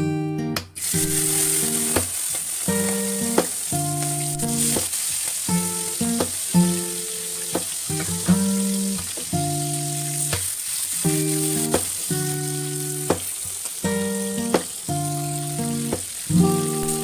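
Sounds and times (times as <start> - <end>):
background guitar music: 0.0 - 17.0
food sizzling in hot oil: 0.8 - 17.0.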